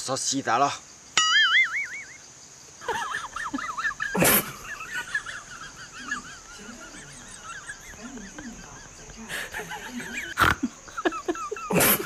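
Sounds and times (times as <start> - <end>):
wavering bird-like calls: 1.2 - 11.7.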